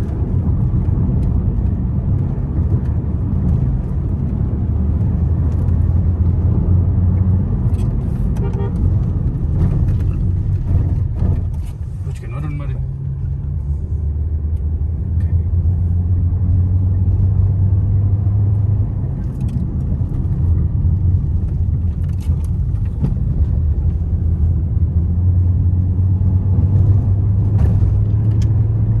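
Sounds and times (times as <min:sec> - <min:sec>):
car driving rumble: 0:00.0 - 0:29.0
road and wind noise: 0:00.0 - 0:29.0.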